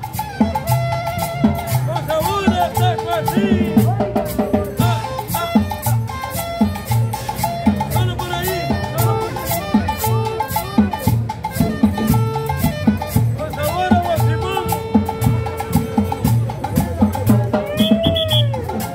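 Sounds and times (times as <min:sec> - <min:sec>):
salsa dance music with saxophone: 0:00.0 - 0:18.9.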